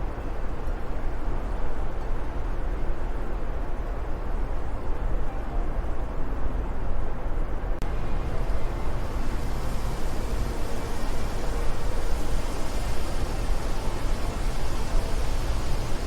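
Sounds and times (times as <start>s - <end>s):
steady wind noise: 0.0s - 16.0s.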